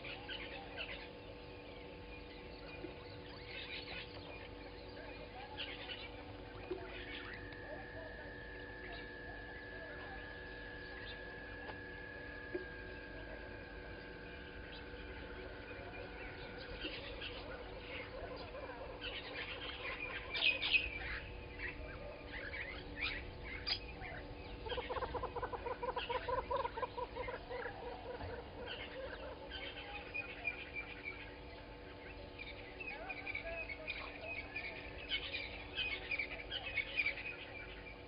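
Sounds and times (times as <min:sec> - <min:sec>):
birds chirping and trilling: 0:00.0 - 0:38.0
low rapidly pulsed bird call: 0:00.0 - 0:38.0.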